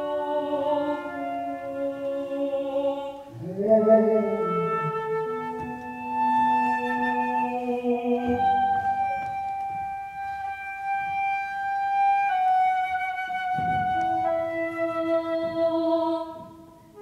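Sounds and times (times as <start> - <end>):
flute playing held notes: 0.0 - 2.5, 3.5 - 16.2.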